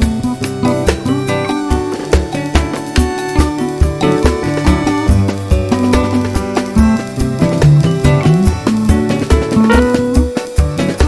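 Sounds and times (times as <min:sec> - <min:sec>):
upbeat music with plucked guitar: 0:00.0 - 0:11.0.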